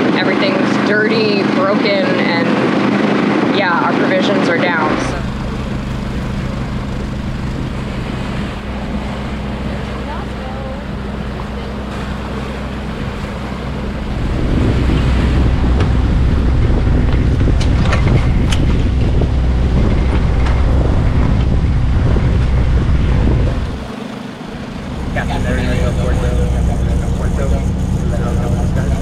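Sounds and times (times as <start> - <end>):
low steady hum: 0.0 - 29.0
water rushing past hull: 0.0 - 29.0
wind buffeting microphone: 0.0 - 29.0.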